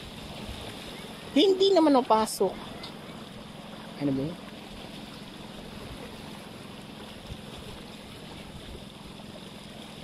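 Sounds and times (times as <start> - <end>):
outdoor wind: 0.0 - 10.0.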